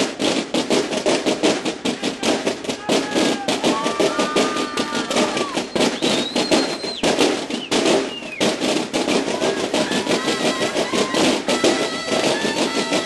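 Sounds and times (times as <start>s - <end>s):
field drums beating fast: 0.0s - 13.0s.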